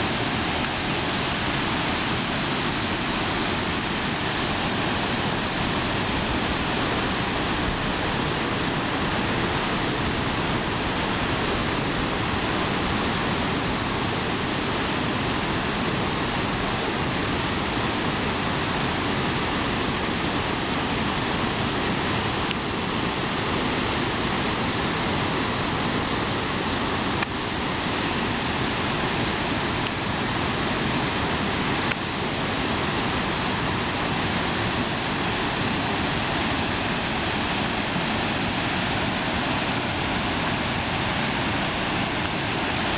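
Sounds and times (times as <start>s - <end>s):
waterfall rushing over rock: 0.0s - 42.9s.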